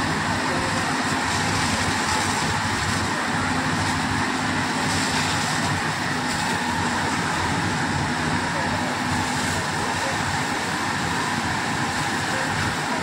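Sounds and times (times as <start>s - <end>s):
engine droning: 0.0s - 13.0s
fire hose spraying water: 0.0s - 13.0s.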